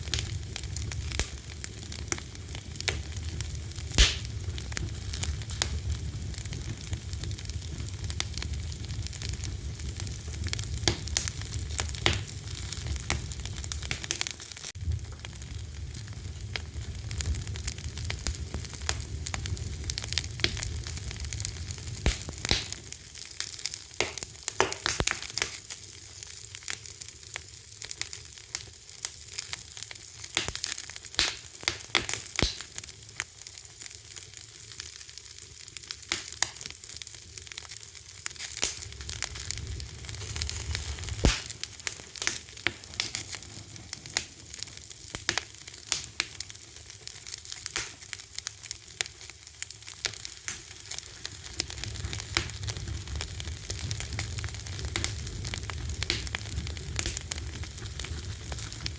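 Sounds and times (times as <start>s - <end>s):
fire hissing: 0.0s - 27.0s, 35.9s - 58.9s
fire popping and crackling: 0.0s - 58.9s
low rumble of flames: 0.0s - 58.9s.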